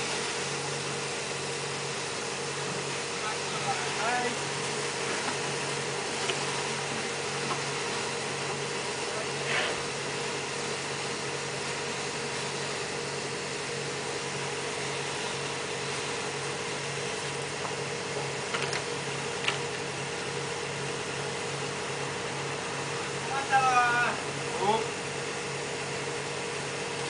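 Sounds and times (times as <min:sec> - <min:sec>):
machinery humming with pulsing: 0:00.0 - 0:27.0.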